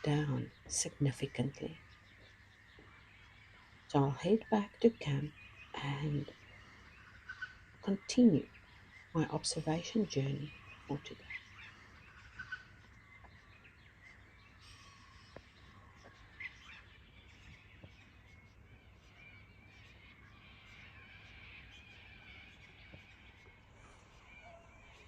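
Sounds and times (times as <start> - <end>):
faint bird calls and chirps: 0.0 - 25.0.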